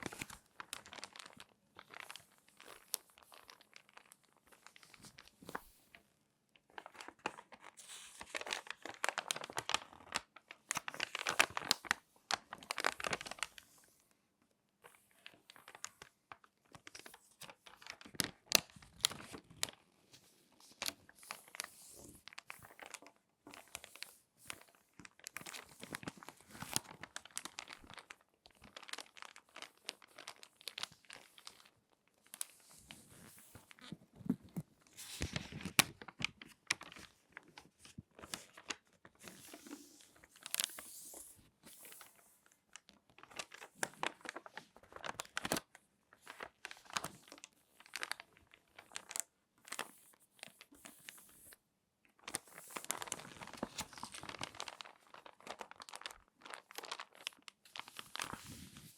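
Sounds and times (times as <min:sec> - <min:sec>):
magazine pages crinkling: 0:00.0 - 0:06.0, 0:06.6 - 0:13.9, 0:14.9 - 0:51.5, 0:52.2 - 0:58.9.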